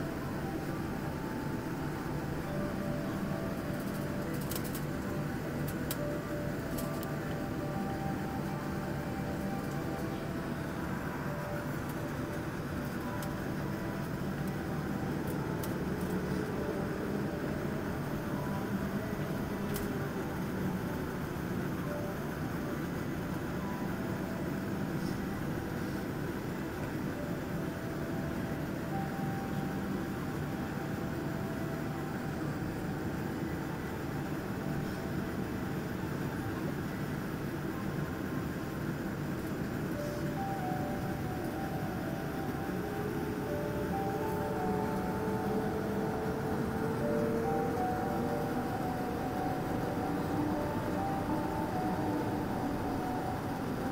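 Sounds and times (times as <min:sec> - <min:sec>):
faint whine: 0:00.0 - 0:53.9
jet engines droning: 0:00.0 - 0:53.9.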